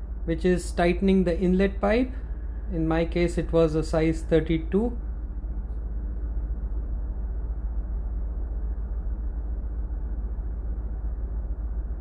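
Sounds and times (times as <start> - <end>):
engine room machinery rumble: 0.0 - 12.0.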